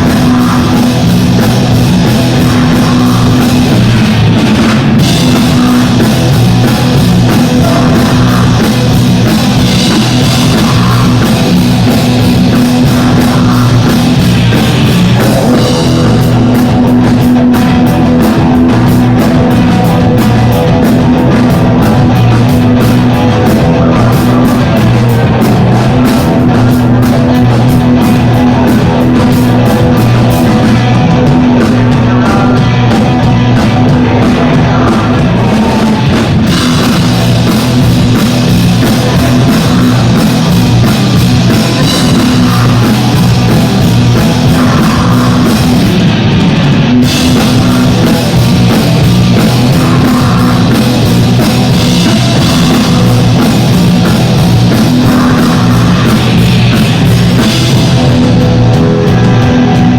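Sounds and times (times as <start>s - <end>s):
drum kit: 0.0s - 59.9s
electric guitar: 0.0s - 59.9s
heavy bass line: 0.0s - 59.9s.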